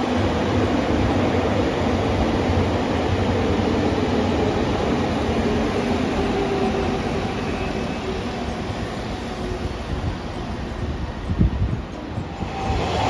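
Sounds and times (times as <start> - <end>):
train running past: 0.0 - 13.0.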